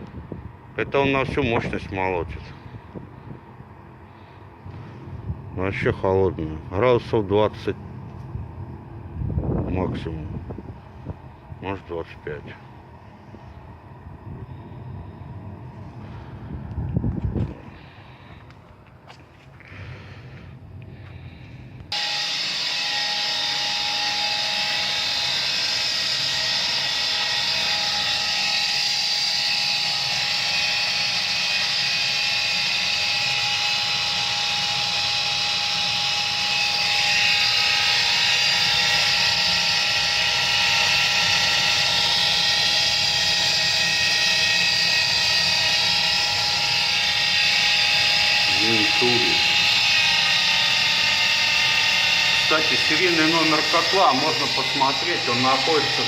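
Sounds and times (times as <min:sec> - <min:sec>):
boiler fan whining: 0:00.0 - 0:56.0.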